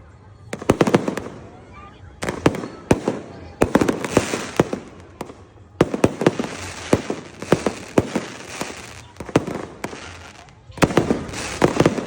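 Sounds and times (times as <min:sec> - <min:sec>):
fireworks crackling: 0:00.4 - 0:12.0
fireworks bangs: 0:00.5 - 0:12.0.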